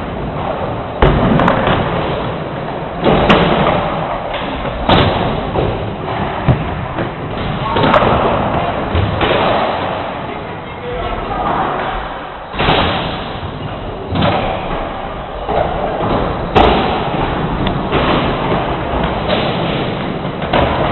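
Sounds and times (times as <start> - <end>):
heavy thuds and slams: 0.4 - 2.3, 3.0 - 10.0, 12.5 - 20.9.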